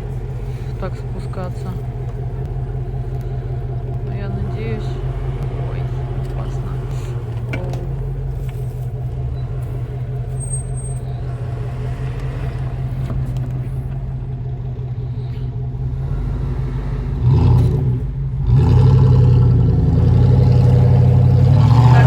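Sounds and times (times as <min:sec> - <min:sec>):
suv engine revving: 0:00.0 - 0:22.0.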